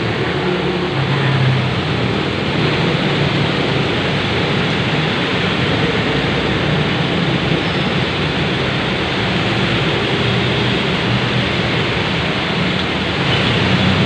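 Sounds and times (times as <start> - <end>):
heavy rain hissing: 0.0 - 14.0
tyres swishing on wet road: 0.0 - 14.0
vehicle engines running: 0.0 - 14.0.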